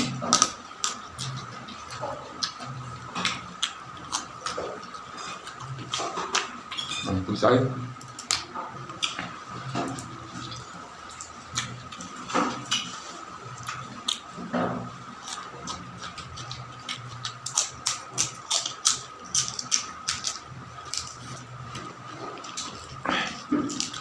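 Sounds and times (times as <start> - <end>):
person chewing with wet clicks: 0.0 - 6.9, 8.0 - 24.0
faint steady hum: 0.0 - 24.0.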